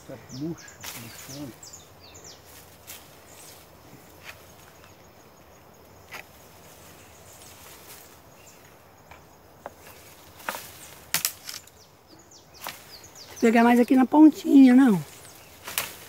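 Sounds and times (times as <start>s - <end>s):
pole rustling tree branches: 0.0s - 5.1s, 5.9s - 16.0s.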